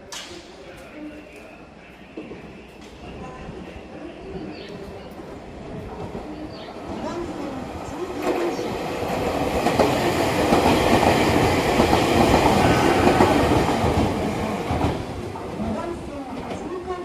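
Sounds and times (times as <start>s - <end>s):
train passing with wheel clatter: 0.1s - 17.0s.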